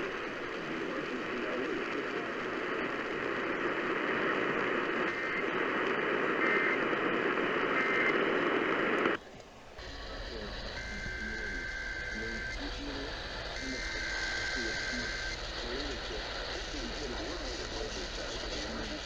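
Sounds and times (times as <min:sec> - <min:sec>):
faint radio programme audio: 0:00.0 - 0:19.0
radio static hiss: 0:00.0 - 0:19.0.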